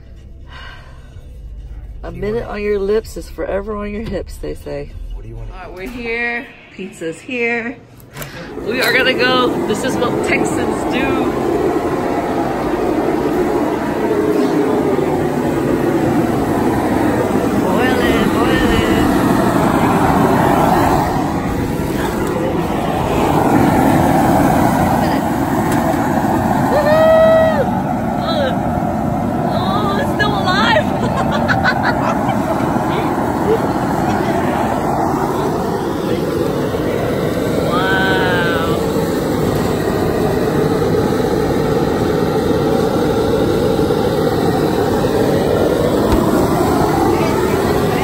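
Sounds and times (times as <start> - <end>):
propane burner roaring: 0.0 - 48.0
steady rushing noise: 0.9 - 48.0.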